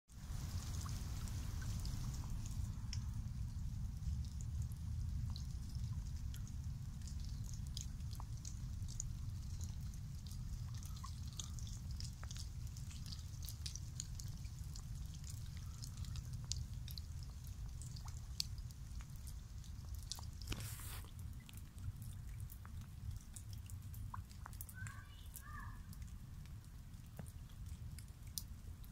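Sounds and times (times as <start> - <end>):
light rain on a lake: 0.1 - 28.9
drops ticking and dripping: 0.2 - 28.9.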